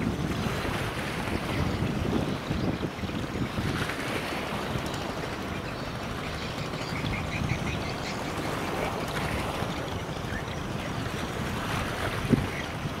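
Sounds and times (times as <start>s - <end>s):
rumble and wash of ships: 0.0s - 13.0s
wind buffeting microphone: 0.0s - 13.0s.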